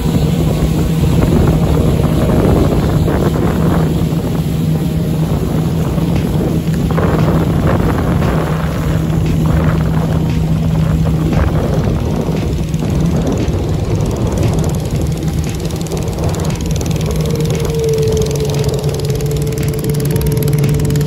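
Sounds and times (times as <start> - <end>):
boat motor running: 0.0 - 21.0
water splashing along hull: 0.0 - 21.0.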